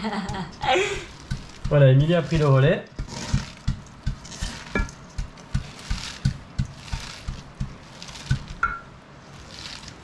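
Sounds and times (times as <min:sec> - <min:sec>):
wet crunching of cabbage: 0:01.1 - 0:10.0.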